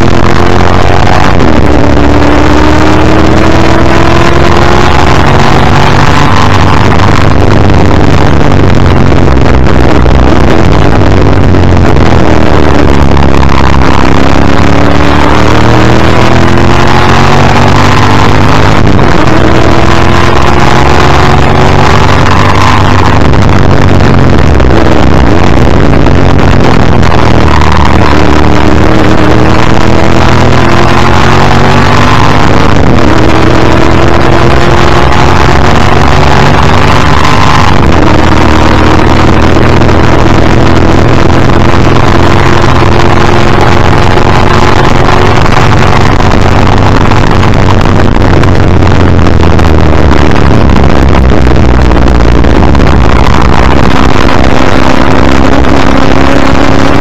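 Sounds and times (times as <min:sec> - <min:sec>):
racing car engine revving: 0:00.0 - 0:57.0
wind and road noise: 0:00.0 - 0:57.0.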